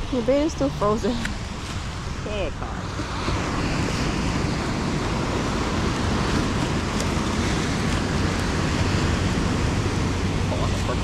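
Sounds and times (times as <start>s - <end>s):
wind and surf rushing: 0.0s - 11.0s
wind rumbling on microphone: 0.0s - 11.0s.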